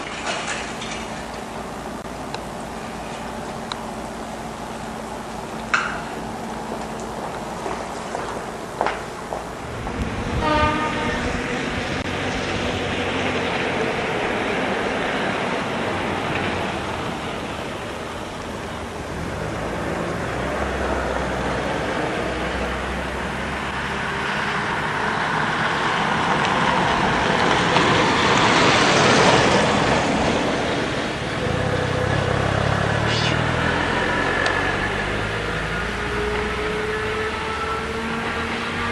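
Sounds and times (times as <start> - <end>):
electric train rumbling: 0.0 - 38.9.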